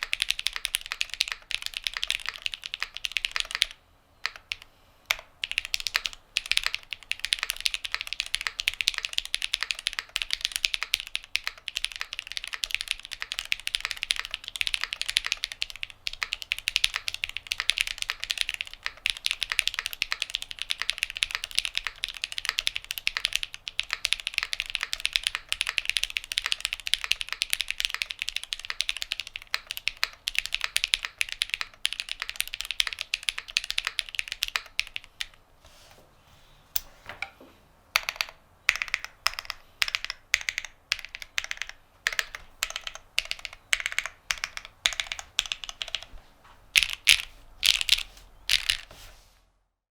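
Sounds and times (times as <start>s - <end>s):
fast typing on mechanical keyboard: 0.0s - 35.4s, 38.0s - 46.2s, 46.8s - 48.9s.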